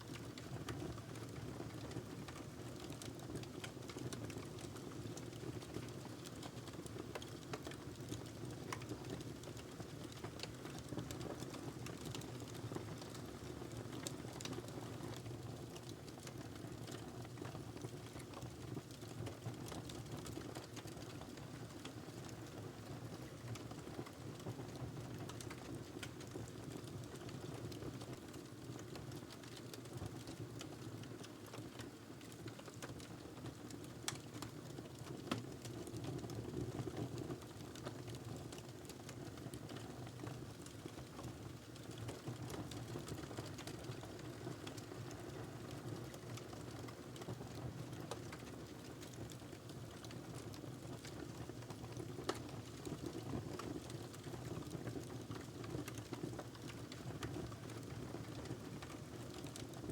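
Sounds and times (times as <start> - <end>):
fireplace fire crackling: 2.8 - 22.4, 23.3 - 59.9.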